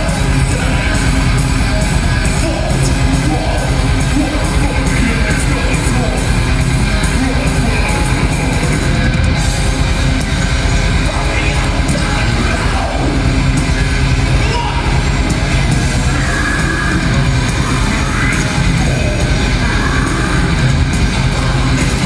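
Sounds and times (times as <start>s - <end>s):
thrash metal band playing live: 0.0s - 22.0s.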